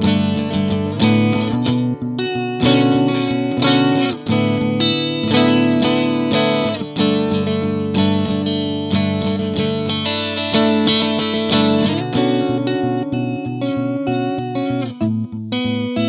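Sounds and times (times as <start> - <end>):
electric guitar strummed chords: 0.0 - 16.0.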